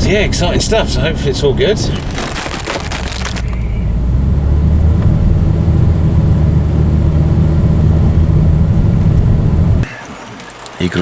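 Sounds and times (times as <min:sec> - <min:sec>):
vehicle engine and road rumble: 0:00.0 - 0:09.9.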